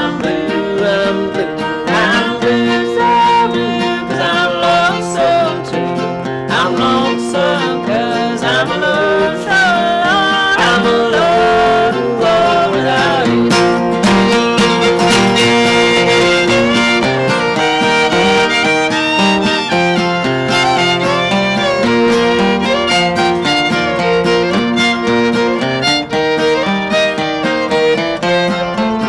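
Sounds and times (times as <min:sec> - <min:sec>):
acoustic guitar accompaniment: 0:00.0 - 0:29.0
fiddle melody: 0:00.0 - 0:29.0.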